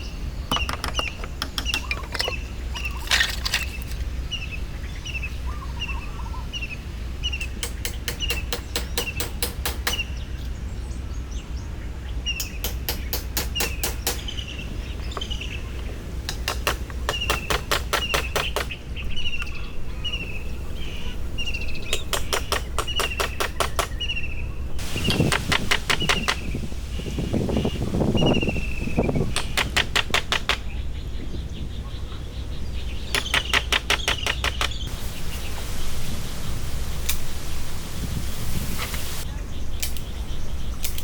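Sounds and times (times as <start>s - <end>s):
bird chirping: 0.0s - 35.7s.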